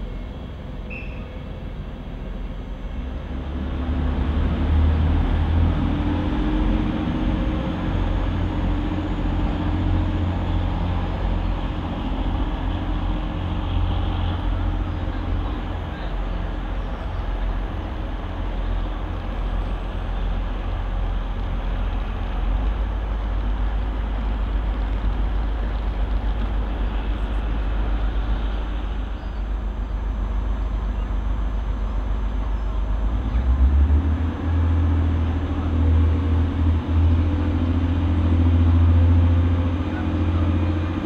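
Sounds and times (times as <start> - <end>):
diesel train engines droning: 0.0 - 41.0.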